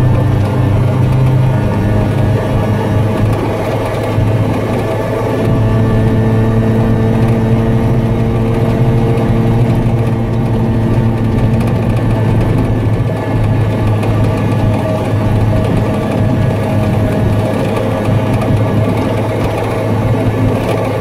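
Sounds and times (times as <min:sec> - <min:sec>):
small two-stroke engine running: 0:00.0 - 0:21.0.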